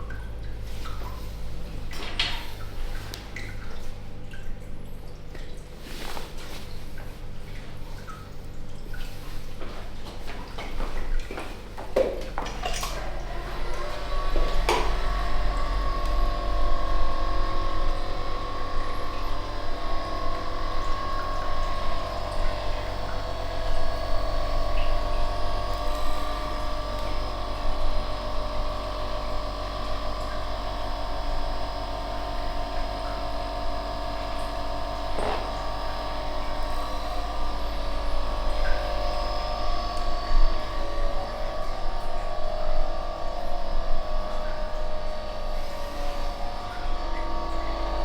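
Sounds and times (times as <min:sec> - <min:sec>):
electric hum with held tones: 0:00.0 - 0:48.0.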